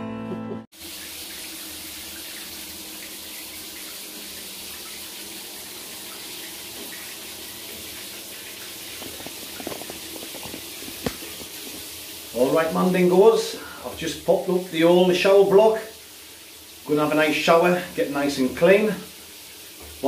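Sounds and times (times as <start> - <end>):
shower spraying onto tiled floor: 0.8 - 20.0.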